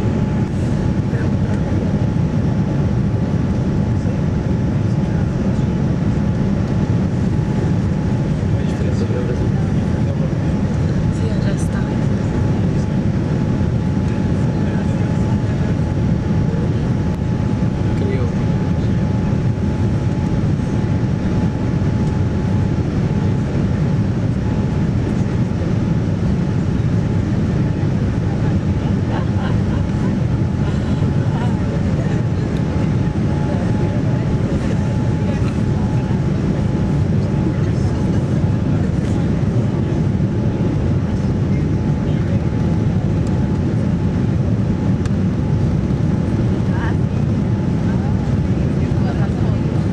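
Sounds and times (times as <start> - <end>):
airliner cabin engine rush: 0.0 - 49.9.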